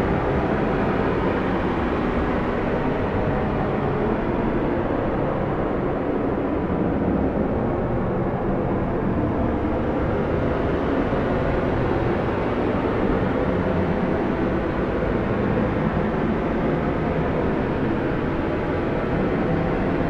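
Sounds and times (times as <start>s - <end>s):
strong blizzard wind: 0.0s - 20.0s.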